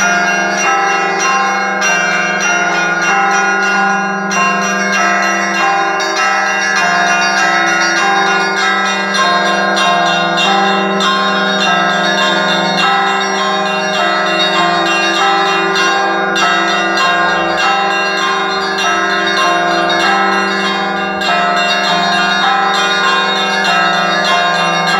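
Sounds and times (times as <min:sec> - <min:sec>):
church bells ringing: 0:00.0 - 0:24.9.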